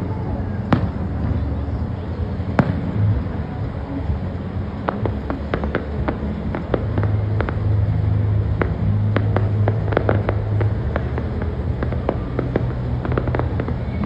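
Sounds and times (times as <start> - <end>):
distant fireworks crackling: 0.0 - 14.0
low steady hum: 0.0 - 14.0.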